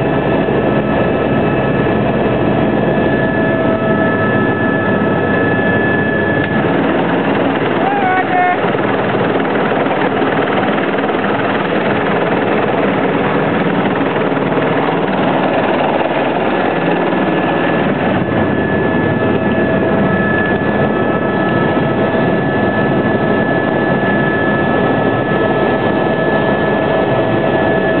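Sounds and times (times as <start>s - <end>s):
helicopter rotor and engine: 0.0s - 28.0s
steady whining tones: 0.0s - 28.0s.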